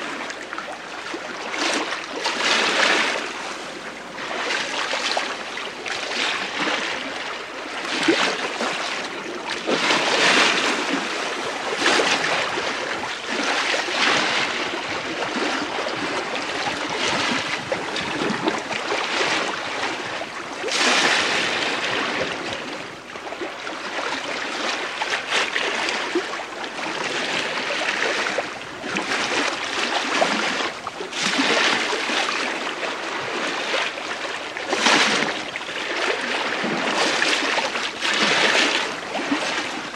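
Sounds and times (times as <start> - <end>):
bow wave rushing along hull: 0.0 - 39.9.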